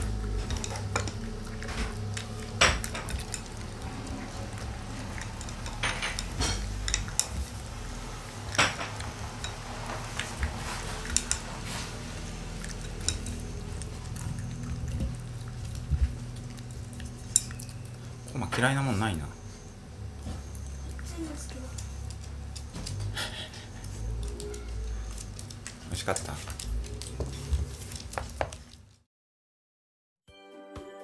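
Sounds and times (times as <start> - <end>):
dog eating from metal bowl: 0.0 - 28.9.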